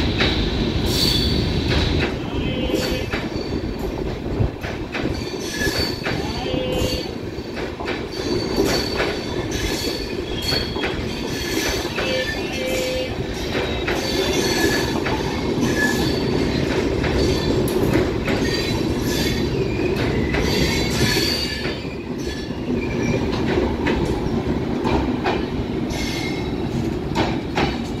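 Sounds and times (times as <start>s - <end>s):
train wheels rumbling: 0.0s - 28.0s
clacks over rail joints: 1.7s - 28.0s.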